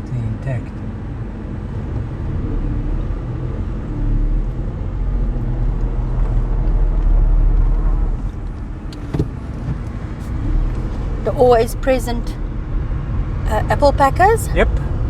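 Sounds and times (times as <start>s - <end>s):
car engine: 0.0s - 15.0s
road rumble: 0.0s - 15.0s.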